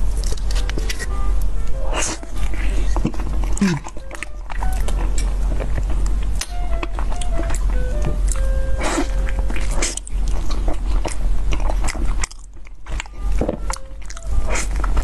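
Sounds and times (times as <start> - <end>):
biting and chewing mouth sounds: 0.0 - 15.0
steady low hum: 0.0 - 15.0.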